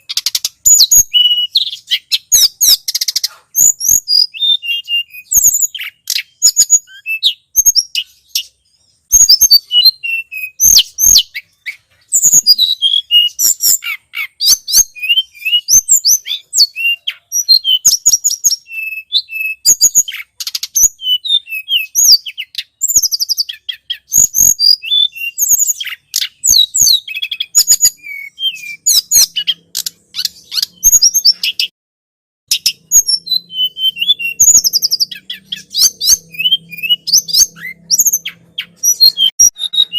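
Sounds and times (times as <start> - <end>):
songbird chirps and trills: 0.0 - 31.7, 32.5 - 39.9.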